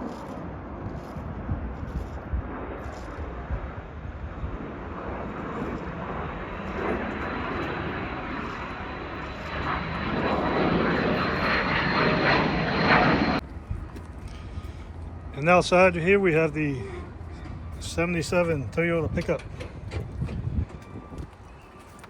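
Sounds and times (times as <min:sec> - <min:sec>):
jet aircraft flying overhead: 0:00.0 - 0:22.0.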